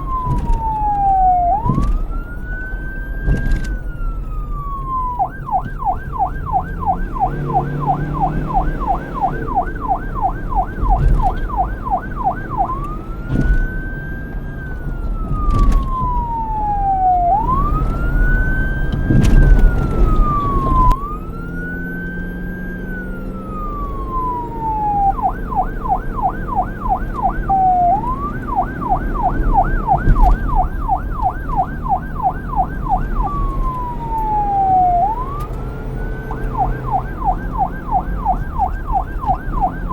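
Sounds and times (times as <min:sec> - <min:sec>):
engine and traffic rumble: 0:00.0 - 0:39.9
police siren yelp and wail: 0:00.0 - 0:39.9.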